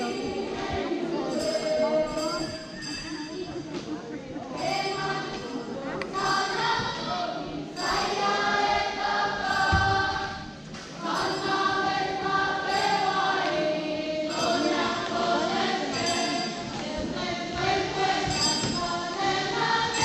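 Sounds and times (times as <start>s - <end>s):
choir singing in harmony: 0.0s - 2.9s, 4.4s - 20.0s.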